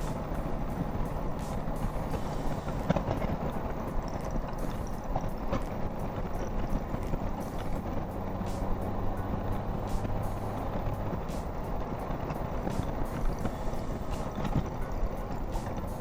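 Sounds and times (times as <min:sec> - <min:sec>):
motorcycle road noise: 0:00.0 - 0:16.0.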